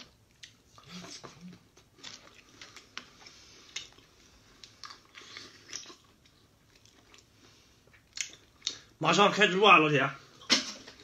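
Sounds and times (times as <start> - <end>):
wet chewing crunches: 0.0 - 8.9.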